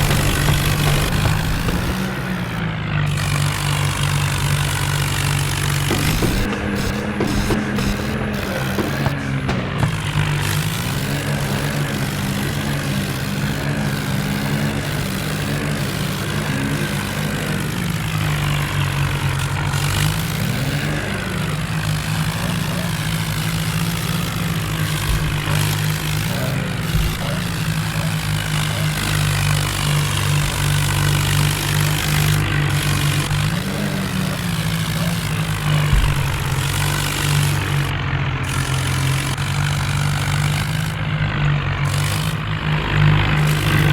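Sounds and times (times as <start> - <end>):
diesel tractor engine running: 0.0 - 43.9.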